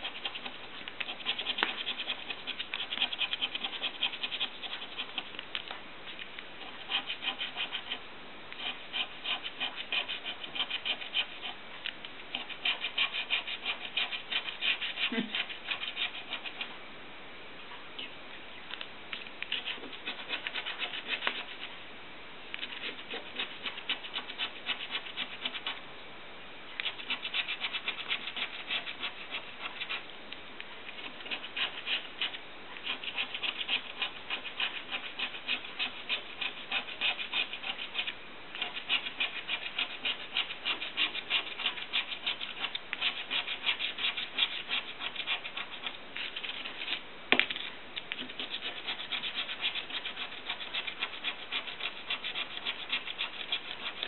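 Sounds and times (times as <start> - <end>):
coin scraping scratch card: 0.0 - 5.3, 6.6 - 8.0, 8.6 - 11.6, 12.3 - 16.7, 19.5 - 21.6, 22.6 - 25.8, 26.8 - 30.0, 31.0 - 47.0, 48.2 - 54.0.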